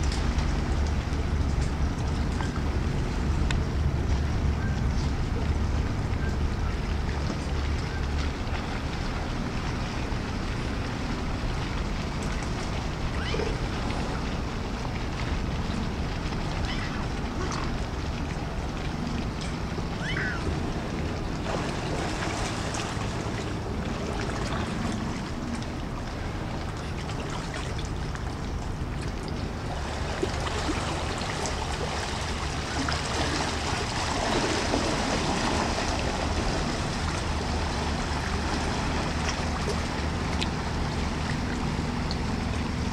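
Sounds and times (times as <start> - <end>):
boat engine running: 0.0 - 42.9
propeller wash churning: 8.4 - 42.9.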